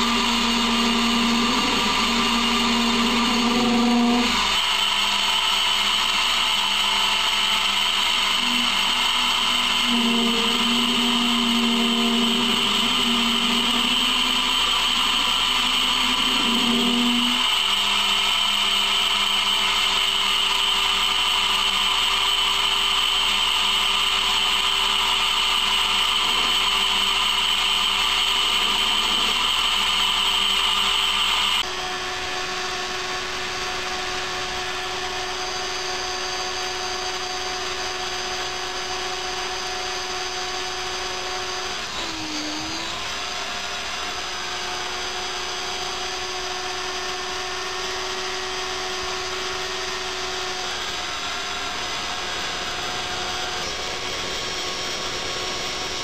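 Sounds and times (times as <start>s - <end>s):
grinding spindle whine: 0.0s - 56.0s
lathe whining: 0.0s - 56.0s.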